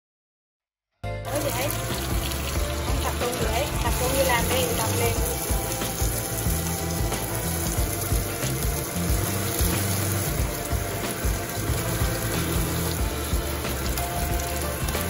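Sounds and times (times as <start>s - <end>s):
background music with low bass: 1.0s - 15.0s
fish sizzling in hot oil: 1.3s - 15.0s.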